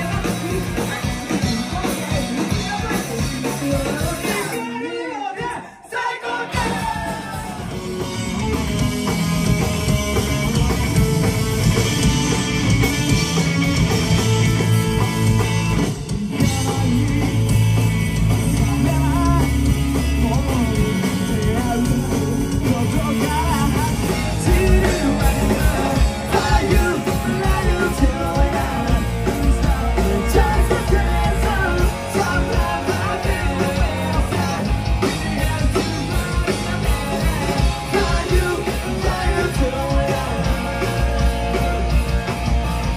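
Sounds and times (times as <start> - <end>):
punk rock band playing live: 0.0 - 42.9.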